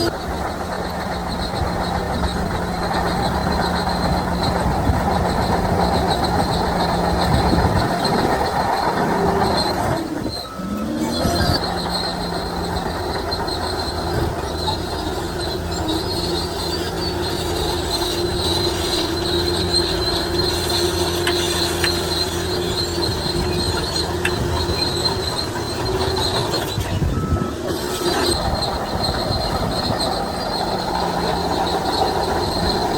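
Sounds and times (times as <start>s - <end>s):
bulldozer engine drone: 0.0s - 32.9s.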